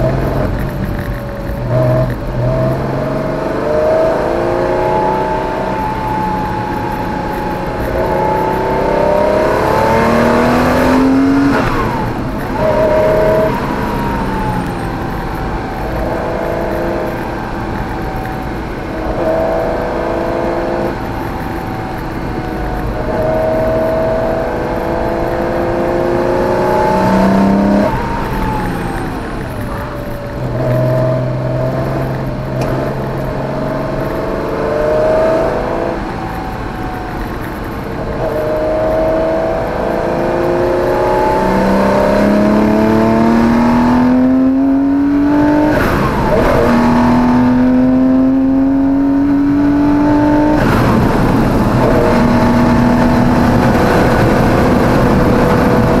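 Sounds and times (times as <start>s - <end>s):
car engine revving in cabin: 0.0s - 56.0s.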